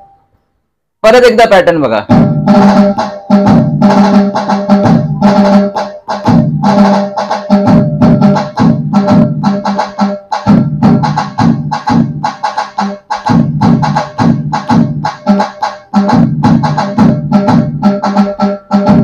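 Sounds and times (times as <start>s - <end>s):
low dhol beat: 2.0s - 19.0s.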